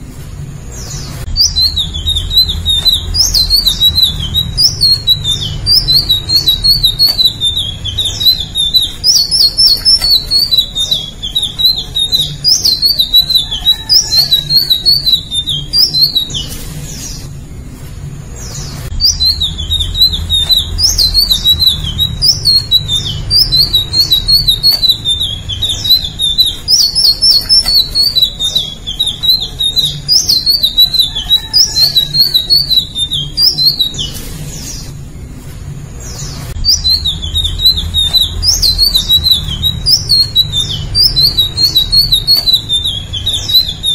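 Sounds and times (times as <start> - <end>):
bird singing twittering phrases: 0.0 - 43.9.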